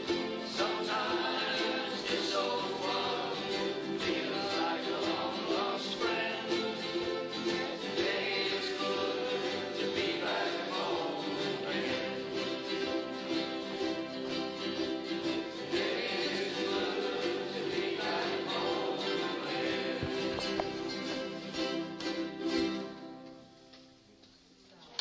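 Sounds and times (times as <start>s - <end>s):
ukulele playing chords: 0.0s - 23.8s.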